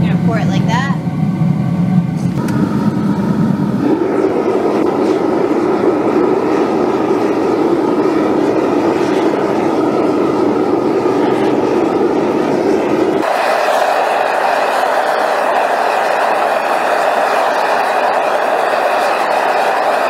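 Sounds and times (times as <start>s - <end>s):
furnace burner rushing: 0.0s - 20.0s.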